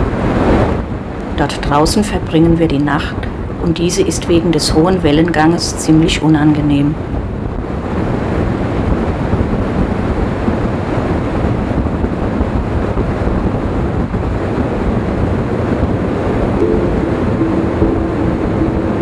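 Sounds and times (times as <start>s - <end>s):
rush of heavy sea: 0.0s - 19.0s
wind buffeting microphone: 0.0s - 19.0s.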